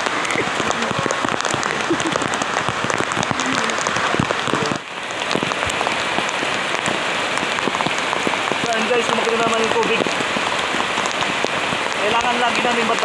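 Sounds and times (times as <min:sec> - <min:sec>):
heavy rain falling: 0:00.0 - 0:13.0
raindrops pattering close: 0:00.0 - 0:13.0.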